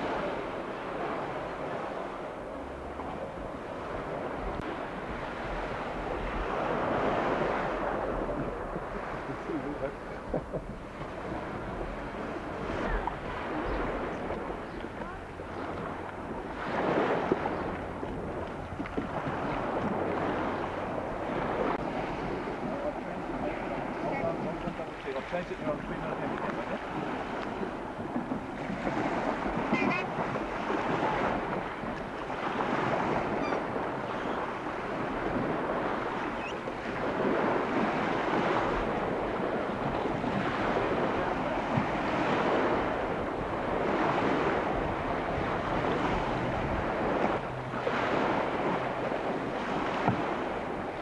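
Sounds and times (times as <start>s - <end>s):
small waves washing: 0.0s - 51.0s
wind buffeting microphone: 0.0s - 51.0s.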